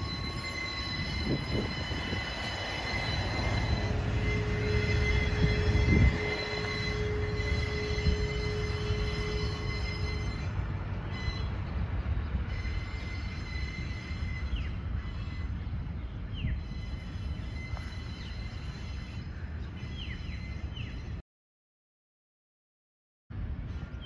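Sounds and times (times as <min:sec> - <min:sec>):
high wheel squeal: 0:00.0 - 0:11.8, 0:12.4 - 0:15.8, 0:16.4 - 0:21.2
train rumbling on track: 0:00.0 - 0:21.2.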